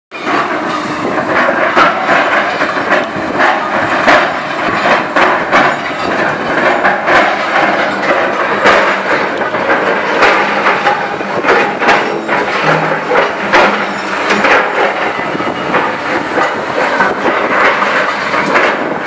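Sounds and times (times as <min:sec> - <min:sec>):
excavator engine clatter: 0:00.1 - 0:19.0
metal and rubble clanking: 0:00.1 - 0:19.0.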